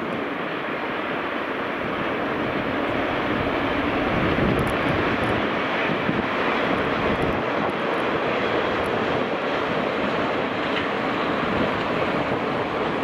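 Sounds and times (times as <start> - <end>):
freight train passing: 0.0 - 13.0.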